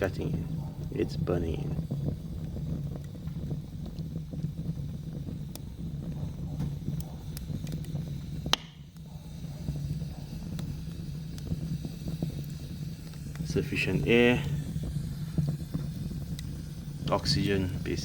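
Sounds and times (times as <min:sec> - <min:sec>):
flames rushing: 0:00.0 - 0:18.0
wood crackling and popping: 0:00.0 - 0:18.0.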